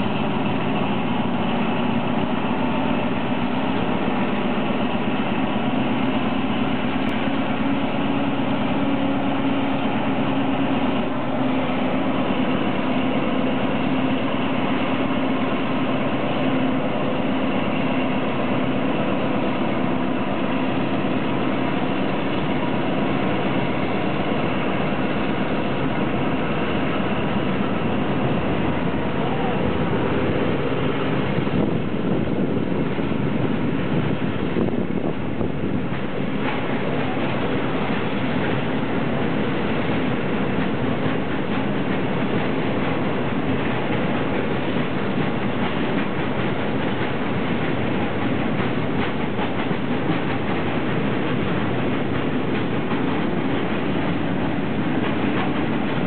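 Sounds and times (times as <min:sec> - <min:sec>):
diesel locomotive engine droning: 0:00.0 - 0:56.0.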